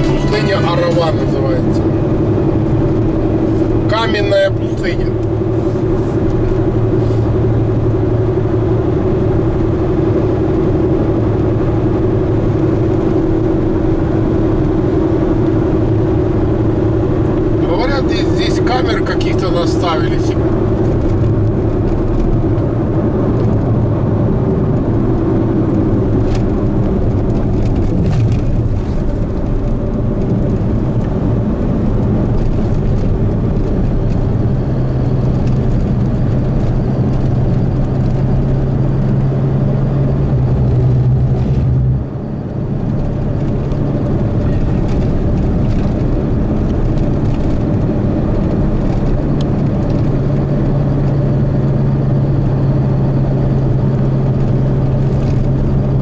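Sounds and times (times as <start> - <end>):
car engine drone inside cabin: 0.0 - 56.0.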